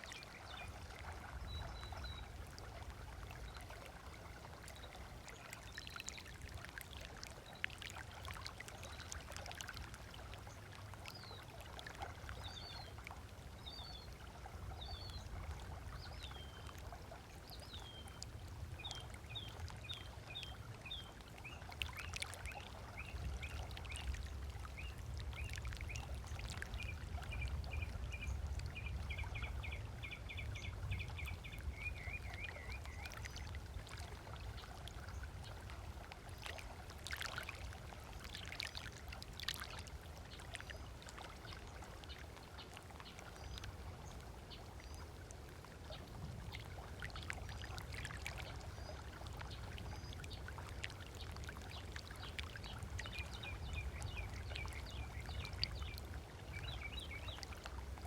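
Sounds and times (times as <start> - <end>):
small waves lapping on a beach: 0.0 - 58.0
water splashes: 0.0 - 58.0.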